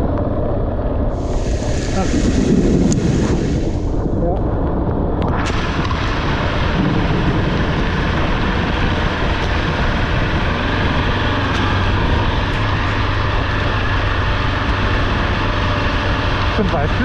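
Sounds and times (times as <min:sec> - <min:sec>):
motorcycle engine running: 0:00.0 - 0:17.0
wind and rain on microphone: 0:00.0 - 0:17.0.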